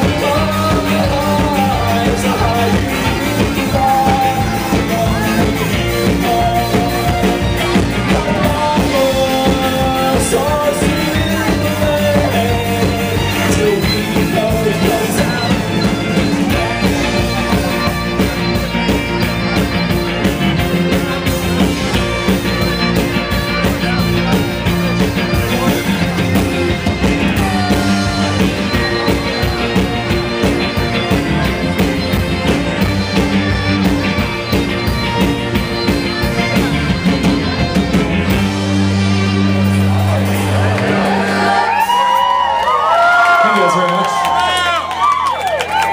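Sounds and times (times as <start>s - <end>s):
steady drum beat: 0.0s - 42.5s
live folk-rock band: 0.0s - 45.9s.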